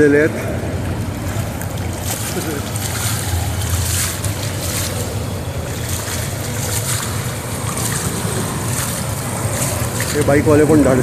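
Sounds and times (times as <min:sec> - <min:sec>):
floodwater splashing: 0:00.0 - 0:11.0
low engine hum: 0:00.0 - 0:11.0.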